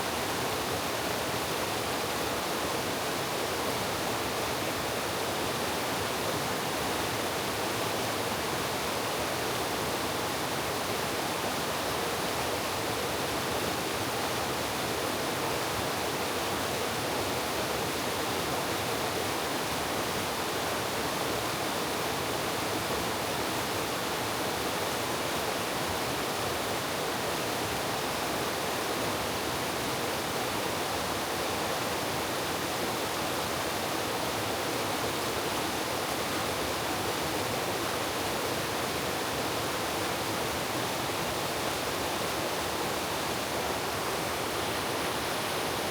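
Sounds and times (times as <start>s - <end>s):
stream rushing water: 0.0s - 45.9s.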